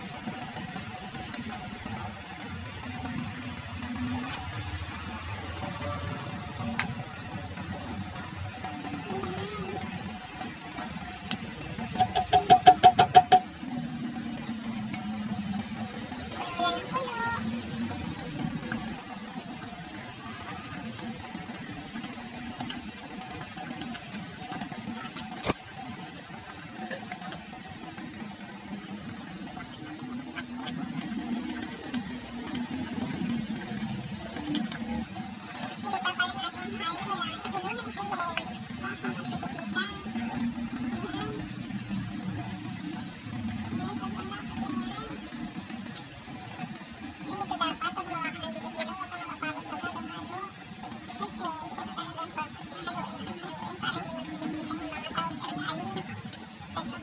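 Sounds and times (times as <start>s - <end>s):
thick liquid bubbling in a pot: 0.0s - 57.0s.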